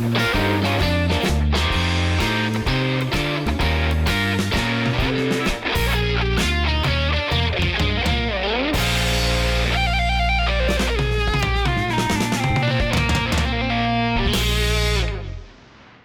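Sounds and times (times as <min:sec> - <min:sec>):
upbeat guitar and drum music: 0:00.0 - 0:16.0.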